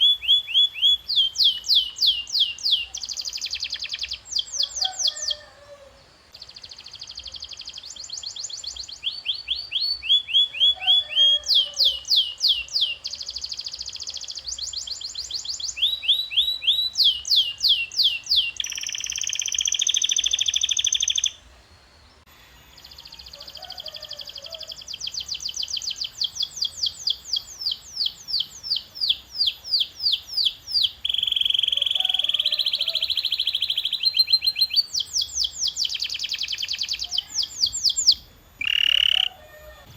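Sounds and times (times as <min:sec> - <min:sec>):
canary singing: 0:00.0 - 0:21.5, 0:22.2 - 0:39.9.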